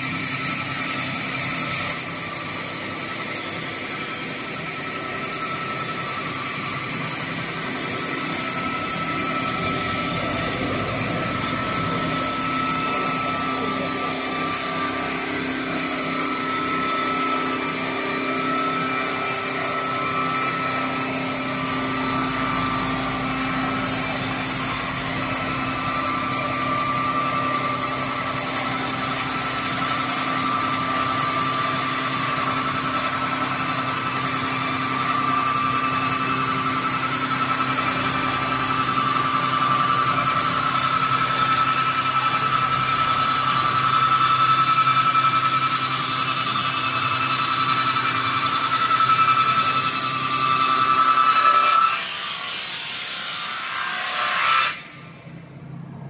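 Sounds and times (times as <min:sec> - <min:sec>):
saw machine whining: 0:00.0 - 0:56.0.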